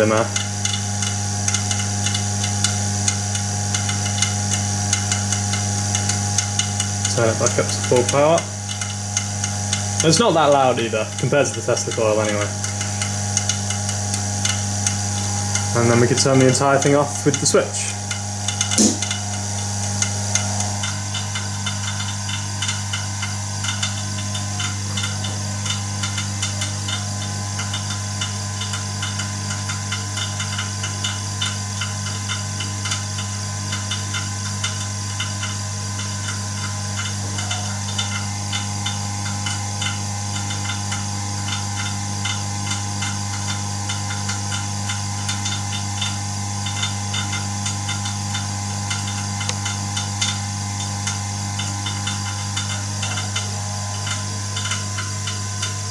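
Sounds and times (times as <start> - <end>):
steady electrical hum: 0.0 - 55.9.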